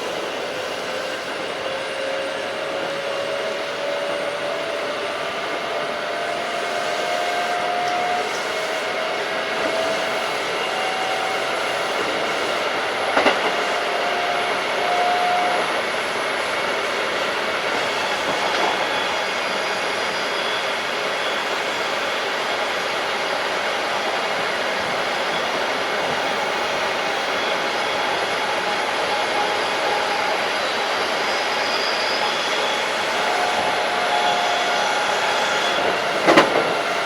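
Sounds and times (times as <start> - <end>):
electric train running: 0.0 - 37.0.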